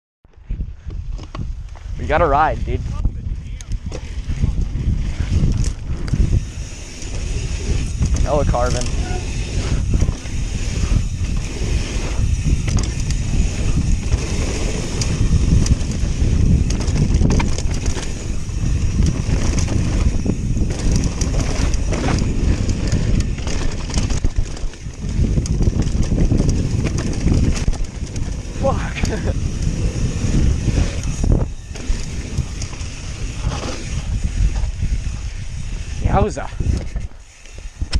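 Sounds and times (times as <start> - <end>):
bike tyres rumbling on trail: 0.3 - 37.9
wind on microphone: 0.3 - 37.9
bike knocks and rattles: 3.5 - 35.9.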